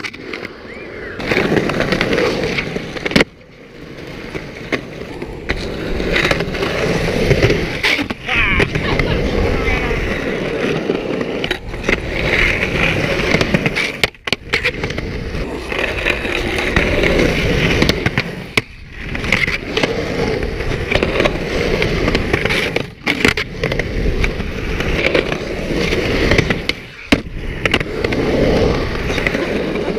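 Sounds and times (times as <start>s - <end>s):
skateboard clacks: 0.0s - 29.9s
skateboard wheels rolling on concrete: 0.0s - 29.9s.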